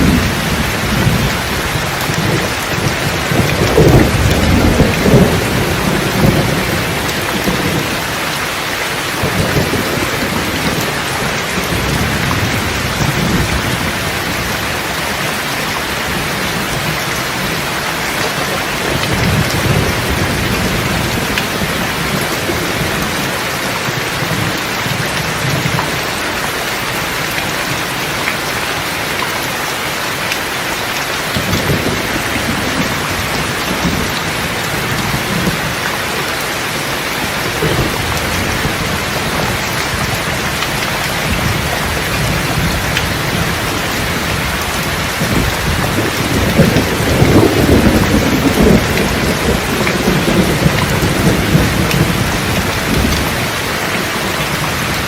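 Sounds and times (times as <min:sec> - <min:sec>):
rolling thunder: 0:00.0 - 0:08.4, 0:09.0 - 0:26.1, 0:31.3 - 0:35.9, 0:36.6 - 0:55.0
heavy rain: 0:00.0 - 0:55.0.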